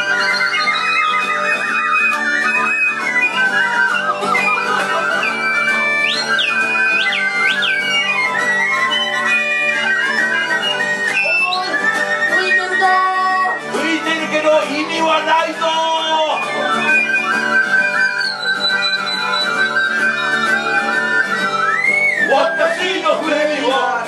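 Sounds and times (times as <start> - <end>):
high whistled note: 0.0 - 13.8, 16.0 - 23.2
acoustic guitar: 0.0 - 24.0
recorder trilling melody: 0.0 - 24.0.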